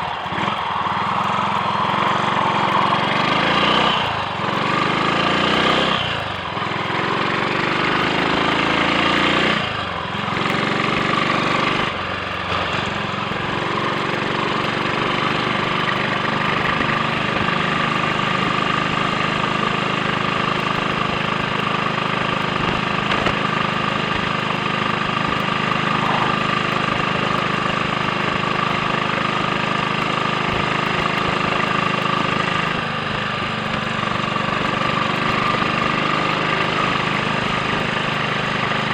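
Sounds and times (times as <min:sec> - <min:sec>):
motorcycle engine pulling away: 0:00.0 - 0:38.9.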